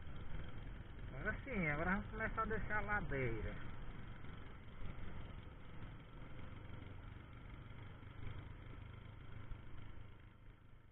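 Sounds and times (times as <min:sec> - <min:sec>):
rumbling vehicle ride: 0:00.0 - 0:10.9
vehicle engine running at low revs: 0:00.0 - 0:10.9.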